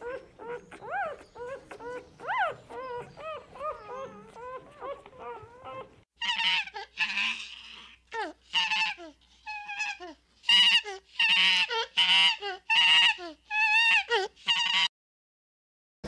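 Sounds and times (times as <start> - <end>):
animal calling: 0.0 - 14.9.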